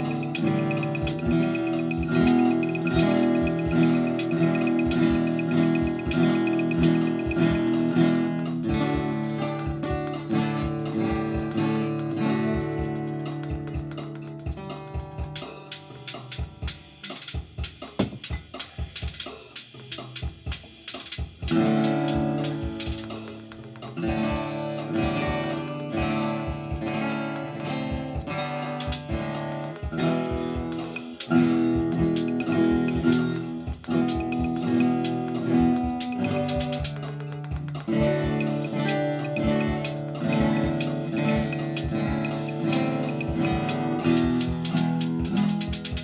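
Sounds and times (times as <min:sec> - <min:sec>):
guitar picked notes: 0:00.0 - 0:17.4, 0:21.4 - 0:46.0
guitar strummed chords: 0:00.0 - 0:19.2, 0:20.4 - 0:46.0.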